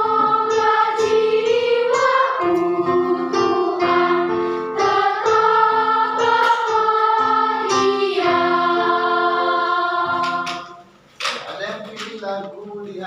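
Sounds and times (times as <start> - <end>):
children's choir singing: 0.0 - 11.0
instrumental accompaniment: 0.0 - 11.4.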